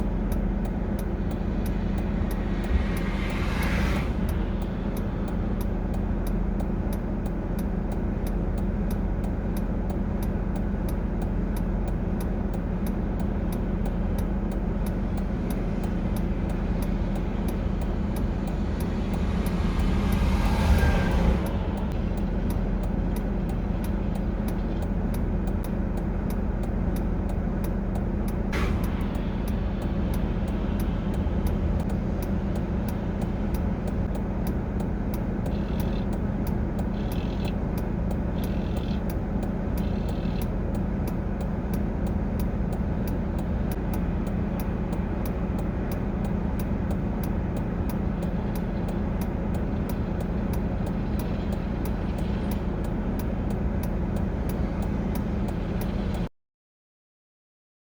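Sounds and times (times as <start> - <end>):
vehicle engine idling: 0.0 - 56.3.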